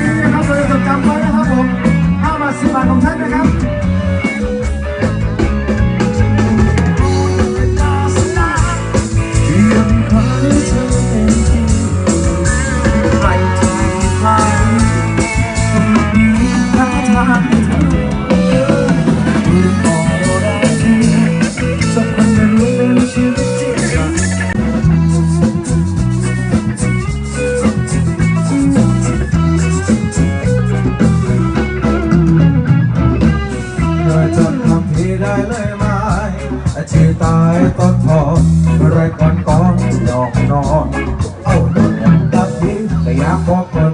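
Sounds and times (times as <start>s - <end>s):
bass guitar: 0.0s - 43.9s
drum kit beat: 0.0s - 43.9s
lead guitar line: 0.0s - 43.9s.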